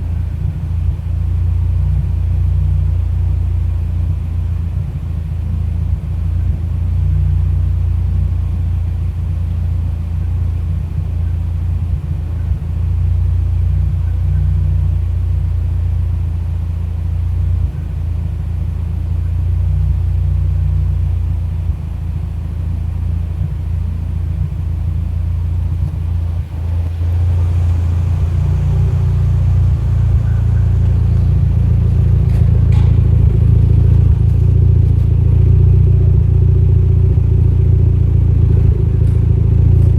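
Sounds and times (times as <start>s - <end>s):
car engine idling unevenly: 0.0s - 39.9s.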